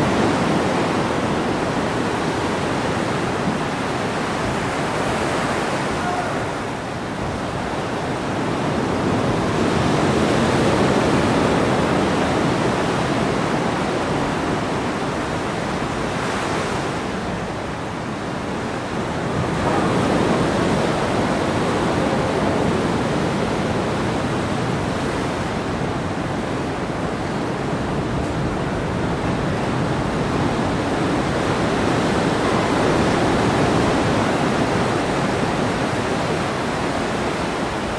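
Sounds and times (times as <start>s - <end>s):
ocean surf washing in: 0.0s - 37.9s.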